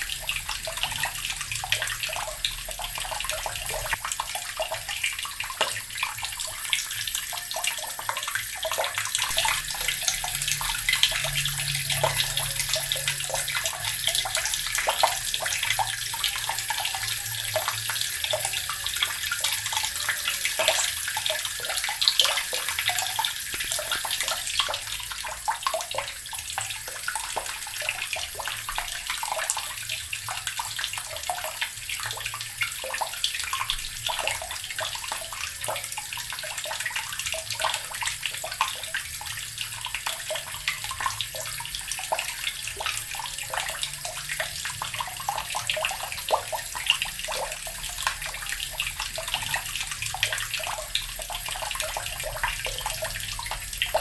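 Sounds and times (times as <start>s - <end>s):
tap water running and splashing: 0.0s - 54.0s.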